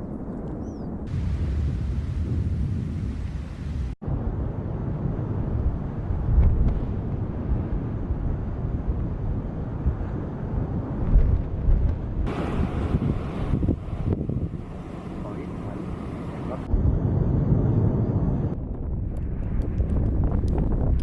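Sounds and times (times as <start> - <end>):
wind buffeting microphone: 0.0 - 21.0
volcano rumbling roar: 1.1 - 11.1, 12.2 - 20.9.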